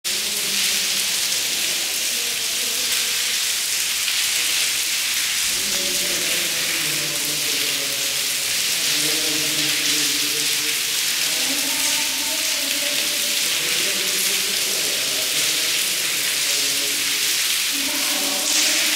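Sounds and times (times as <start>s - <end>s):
rain splashing on stone paving: 0.0s - 18.9s.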